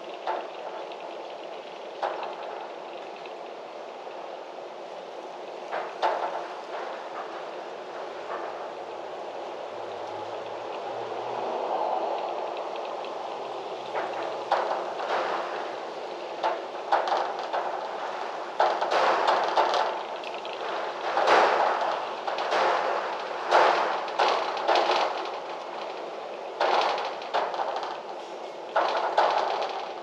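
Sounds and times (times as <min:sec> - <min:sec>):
gusty wind rushing: 0:02.5 - 0:30.0.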